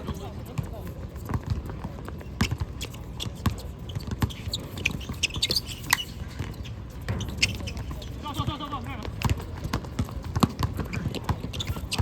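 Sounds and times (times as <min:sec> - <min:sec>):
basketball bouncing on court: 0:00.0 - 0:12.0
sneaker squeaks: 0:00.0 - 0:12.0.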